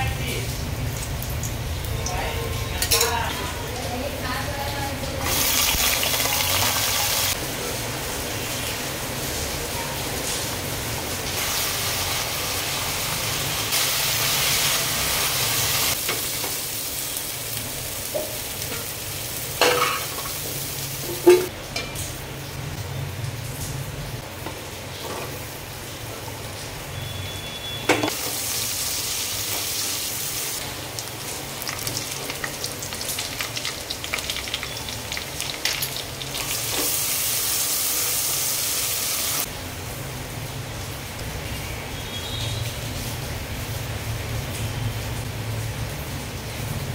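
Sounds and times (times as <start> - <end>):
vegetables sizzling in oil: 0.0 - 46.9.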